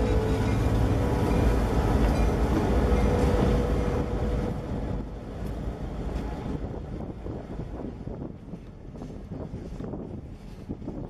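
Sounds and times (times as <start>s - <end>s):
diesel locomotives rumbling past: 0.0s - 11.0s.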